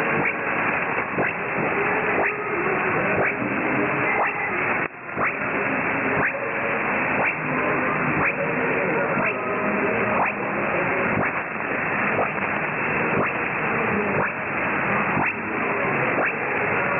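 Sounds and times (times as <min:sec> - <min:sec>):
radio hiss and static: 0:00.0 - 0:16.9.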